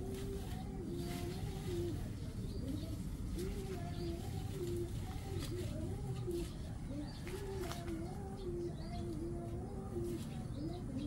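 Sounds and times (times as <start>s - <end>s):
doves cooing: 0.0s - 11.0s.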